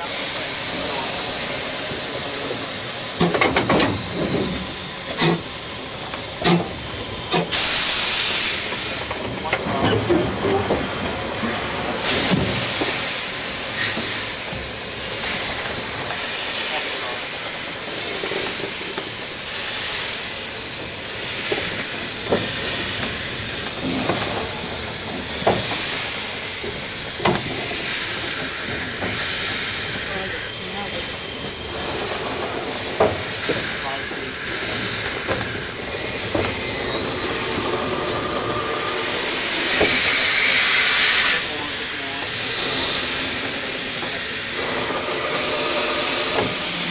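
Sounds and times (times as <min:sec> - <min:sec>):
steam locomotive hissing: 0:00.0 - 0:46.9.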